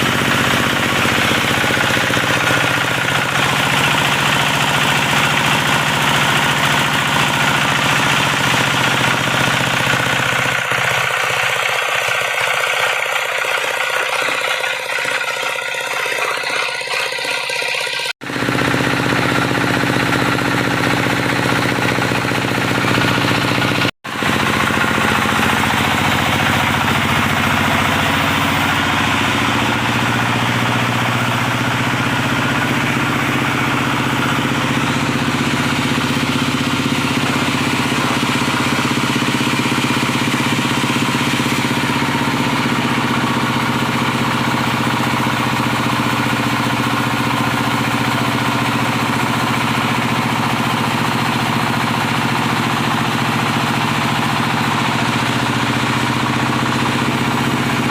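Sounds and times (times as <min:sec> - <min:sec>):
diesel engine running steadily: 0:00.0 - 0:57.9.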